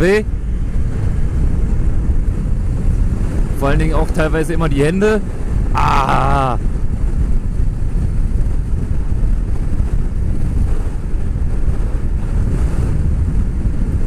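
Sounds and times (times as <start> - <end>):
motorcycle running: 0.0 - 14.0
wind rumble on microphone: 0.0 - 14.0.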